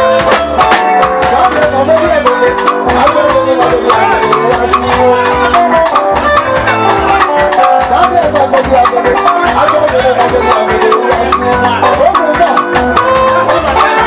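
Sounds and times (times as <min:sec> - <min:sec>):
man singing into microphone: 0:00.0 - 0:06.2, 0:06.9 - 0:14.0
drum kit beat: 0:00.0 - 0:14.0
guitar: 0:00.0 - 0:14.0.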